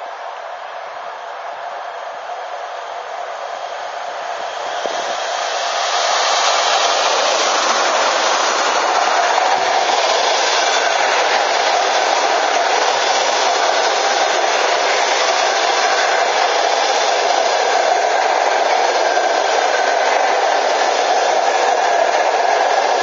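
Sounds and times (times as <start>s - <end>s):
train wheels rushing on rails: 0.0s - 23.0s.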